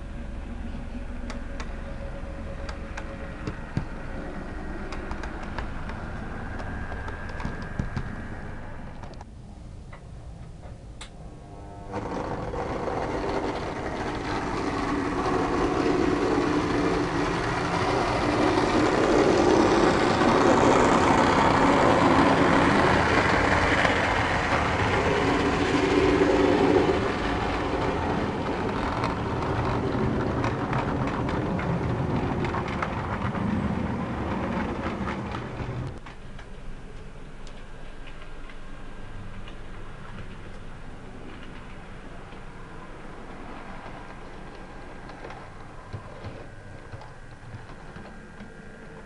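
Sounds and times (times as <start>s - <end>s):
model train humming and rattling: 0.0s - 9.2s, 11.5s - 49.0s.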